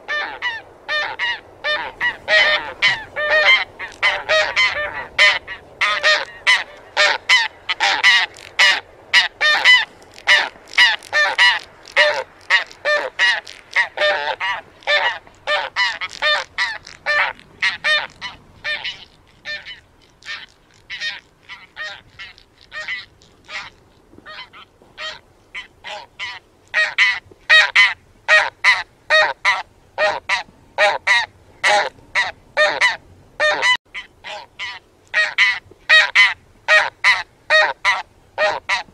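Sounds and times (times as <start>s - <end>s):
geese honking in flight: 0.1s - 23.7s, 24.3s - 38.9s.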